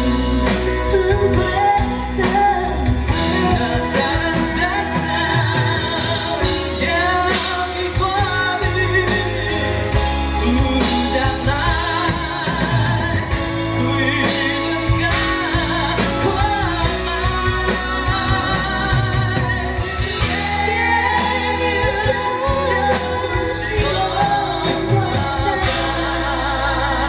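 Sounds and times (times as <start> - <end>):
live pop band: 0.0 - 27.0
person singing with vibrato: 0.0 - 27.0.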